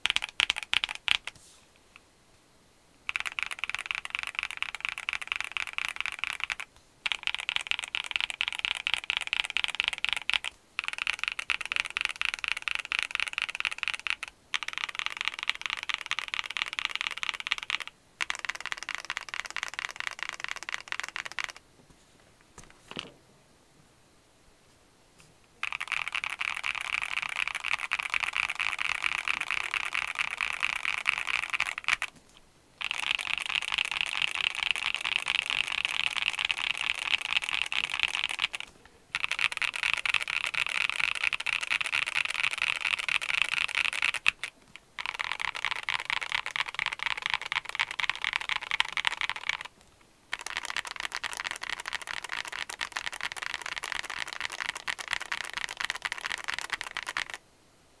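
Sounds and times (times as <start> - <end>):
mechanical keyboard typing: 0.0 - 1.4, 3.1 - 21.6, 25.6 - 32.1, 32.8 - 49.7, 50.3 - 57.4.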